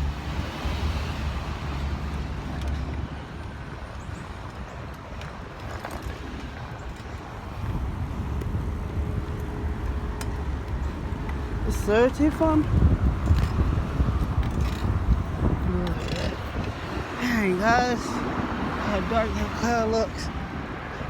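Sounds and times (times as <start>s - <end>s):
traffic rumble: 0.0s - 21.0s
wind buffeting microphone: 0.0s - 21.0s.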